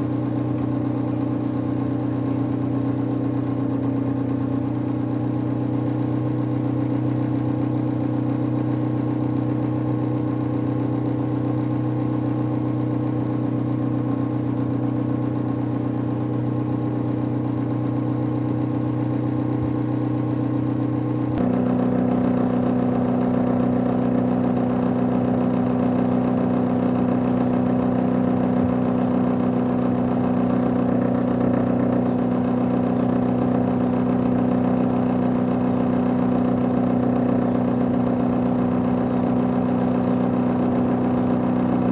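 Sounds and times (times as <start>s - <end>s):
dust collector blower humming: 0.0s - 41.9s.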